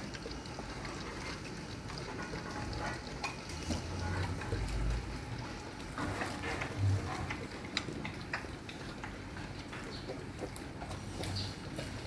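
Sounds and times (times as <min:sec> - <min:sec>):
dogs chewing and lapping: 0:00.0 - 0:12.0.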